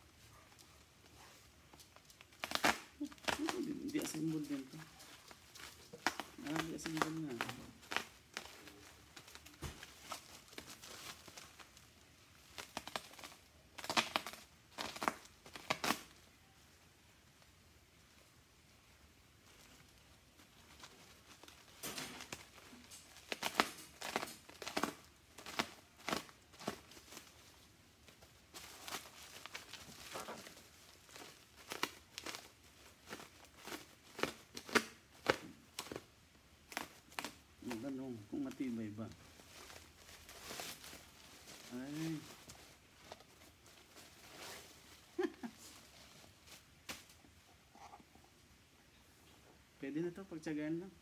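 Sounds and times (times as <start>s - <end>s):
bubble wrap crinkling: 0.0s - 48.7s
bubble wrap snapping: 0.5s - 47.4s.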